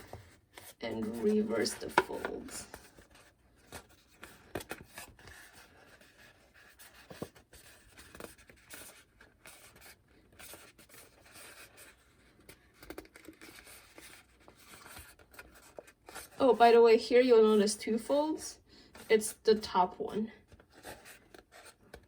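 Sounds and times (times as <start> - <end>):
paper rustling and crinkling: 0.0 - 16.4, 20.4 - 22.0.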